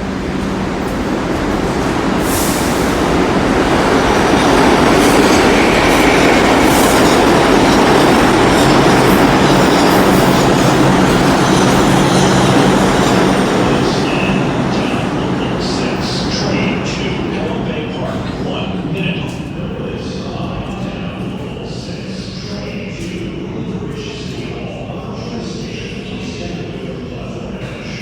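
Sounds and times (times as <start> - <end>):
subway train roaring: 0.0 - 28.0.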